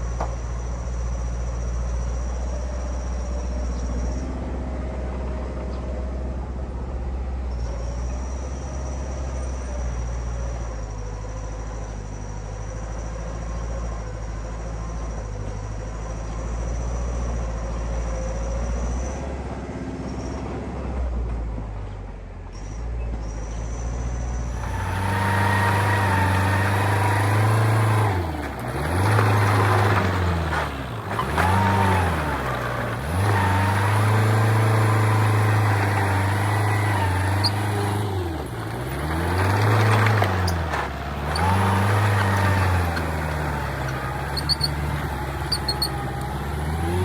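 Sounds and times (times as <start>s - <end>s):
diesel machine engine drone: 0.0s - 47.0s.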